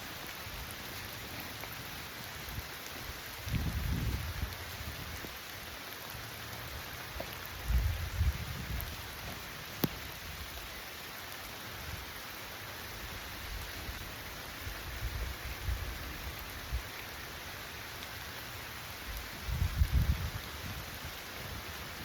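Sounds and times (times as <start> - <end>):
heavy rain hiss: 0.0 - 22.0.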